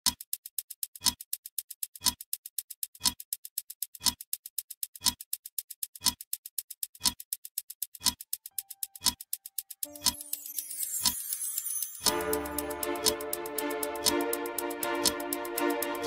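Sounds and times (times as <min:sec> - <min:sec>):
clock tick with low thump: 0:00.0 - 0:16.0
rapid faint ticks: 0:00.0 - 0:16.0.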